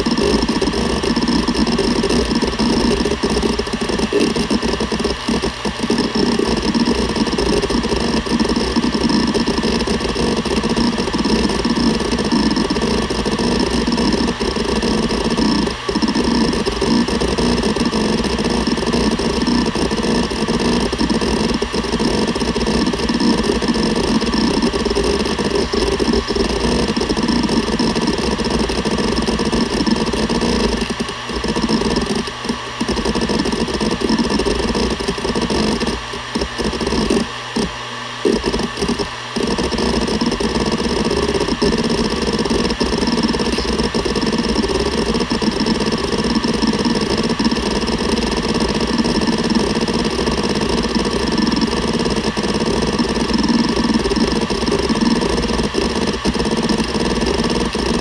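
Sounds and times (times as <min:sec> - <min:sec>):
hard drive head seek chatter: 0:00.0 - 0:58.0
hard drive spindle humming: 0:00.0 - 0:58.0.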